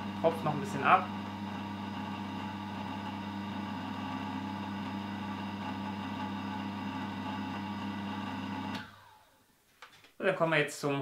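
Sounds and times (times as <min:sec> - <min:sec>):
juicer motor humming: 0:00.0 - 0:09.4.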